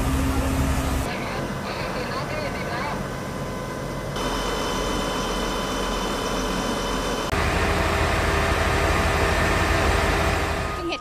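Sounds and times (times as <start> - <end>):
faint steady whines: 0.0 - 11.0
low engine rumble: 0.0 - 11.0
vehicle engines idling: 0.0 - 11.0.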